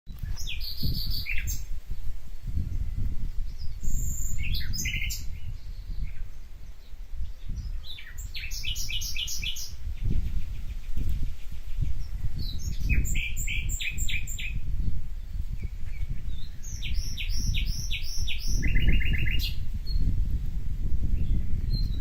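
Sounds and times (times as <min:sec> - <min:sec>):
songbirds chirping: 0:00.1 - 0:22.0.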